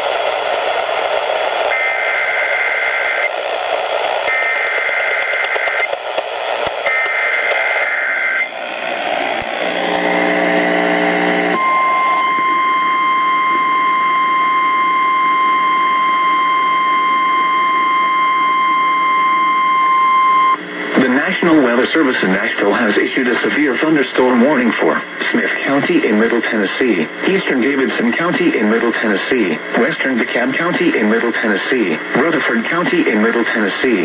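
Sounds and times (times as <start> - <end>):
radio hiss: 0.0 - 16.9, 20.5 - 34.0.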